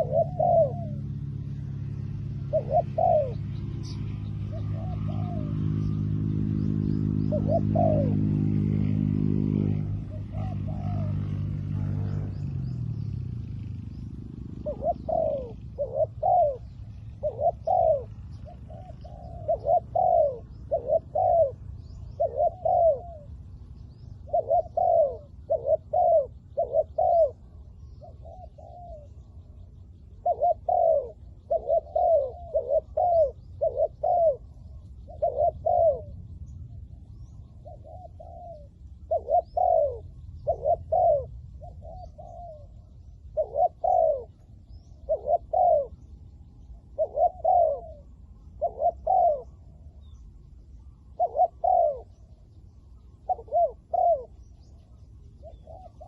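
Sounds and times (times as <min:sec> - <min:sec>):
dove cooing: 0:00.0 - 0:56.0
low background rumble: 0:00.0 - 0:56.0.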